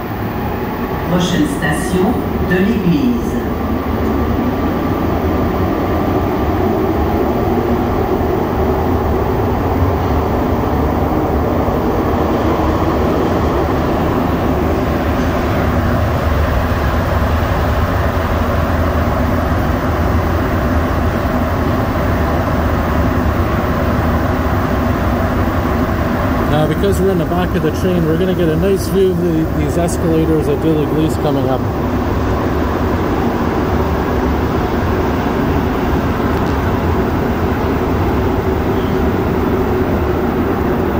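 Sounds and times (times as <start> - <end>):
subway train rumbling in tunnel: 0.0 - 40.9.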